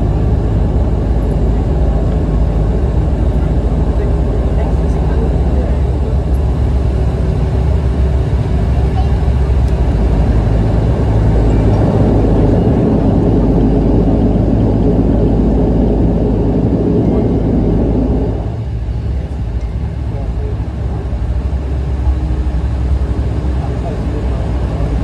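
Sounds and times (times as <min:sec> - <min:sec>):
turboprop engines and propellers humming: 0:00.0 - 0:25.0.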